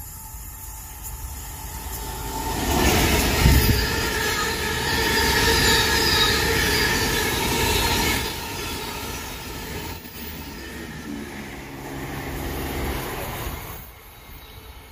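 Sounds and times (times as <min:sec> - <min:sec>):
diesel locomotive passing: 0:00.0 - 0:14.9
wagons rumbling over rails: 0:01.1 - 0:14.8.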